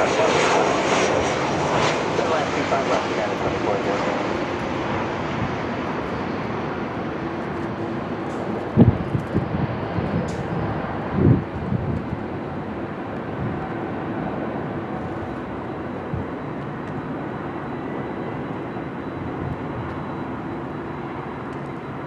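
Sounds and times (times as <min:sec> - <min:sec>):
high engine whine: 0:00.0 - 0:22.0
jet engines rushing: 0:00.0 - 0:22.0.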